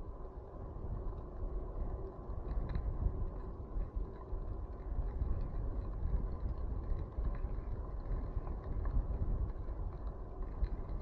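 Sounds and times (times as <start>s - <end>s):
bicycle tyres rolling on dirt: 0.0s - 11.0s
wind buffeting microphone: 0.0s - 11.0s.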